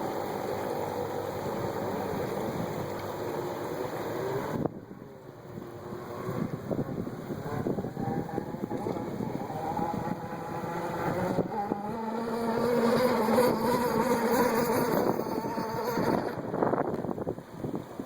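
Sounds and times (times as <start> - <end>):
model boat petrol engine: 0.0 - 18.0.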